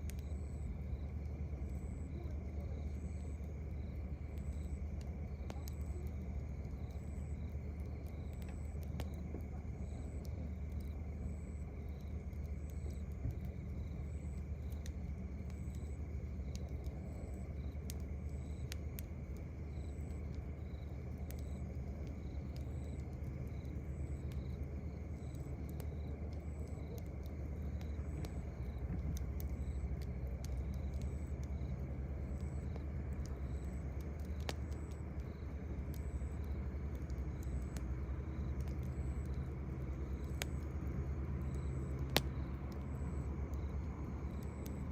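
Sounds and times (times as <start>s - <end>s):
campfire crackling and popping: 0.0s - 44.9s
crickets chirping: 0.0s - 44.9s.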